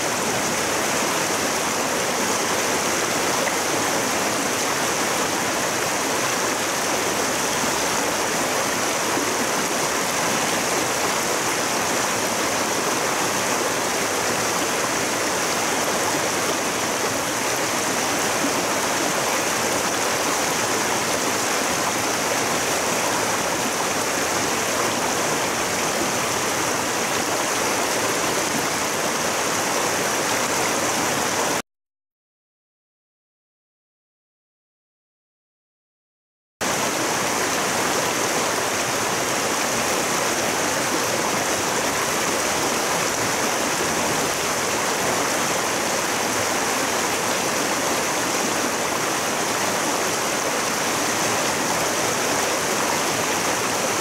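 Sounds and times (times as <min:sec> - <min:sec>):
stream rushing over rocks: 0:00.0 - 0:31.6, 0:36.6 - 0:54.0.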